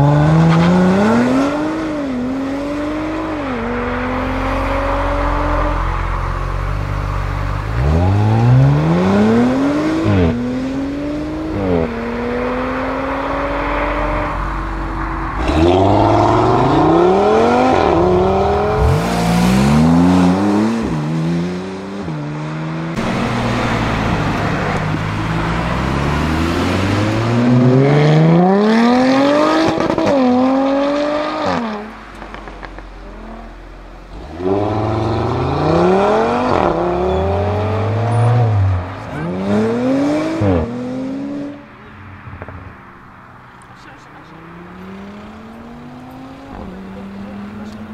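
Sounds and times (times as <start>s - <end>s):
cars accelerating hard: 0.0s - 47.9s.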